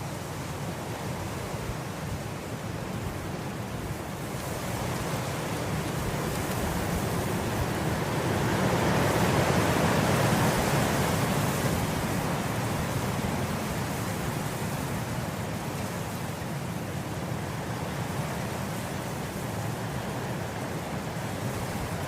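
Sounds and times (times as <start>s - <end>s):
wind blowing through grass: 0.0s - 22.0s.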